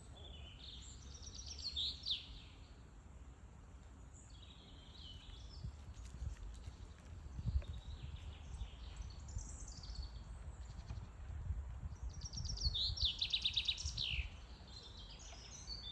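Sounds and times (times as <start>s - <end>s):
songbirds singing: 0.0s - 2.8s, 3.9s - 6.1s, 7.4s - 11.1s, 11.8s - 15.9s.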